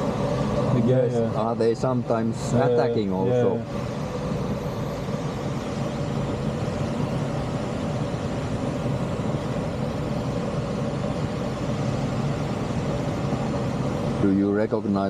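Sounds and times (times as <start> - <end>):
airflow rushing: 0.0 - 15.0
faint steady hum: 0.0 - 15.0.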